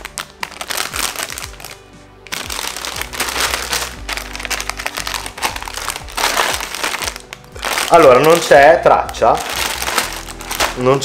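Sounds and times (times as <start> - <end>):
background music: 0.0 - 11.0
plastic bags crinkling: 0.0 - 11.0.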